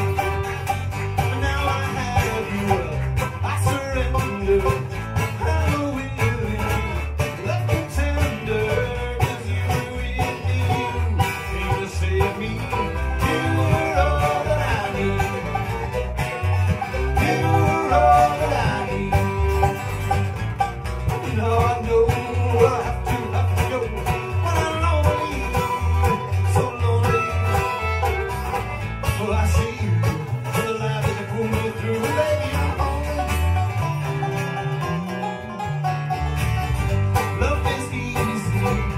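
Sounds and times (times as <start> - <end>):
banjo: 0.0 - 38.9
fiddle: 0.0 - 38.9
strummed acoustic guitars: 0.0 - 38.9
men singing: 1.2 - 20.2, 21.1 - 27.9, 29.0 - 33.6, 37.2 - 38.9.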